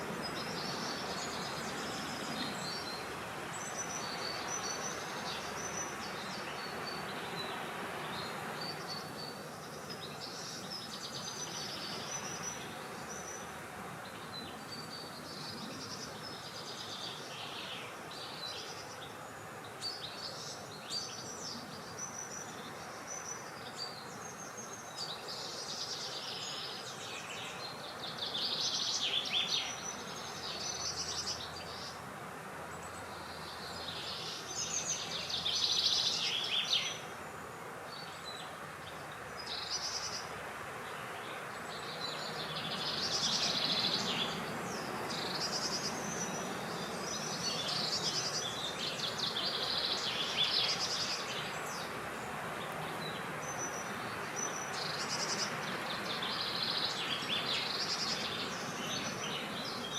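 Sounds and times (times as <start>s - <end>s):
birds singing: 0.0s - 32.0s, 32.7s - 59.9s
steady background hiss: 0.0s - 59.9s.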